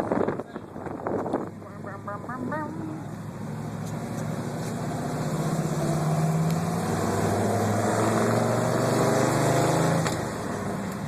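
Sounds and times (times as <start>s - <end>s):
car engine revving: 0.8s - 11.0s.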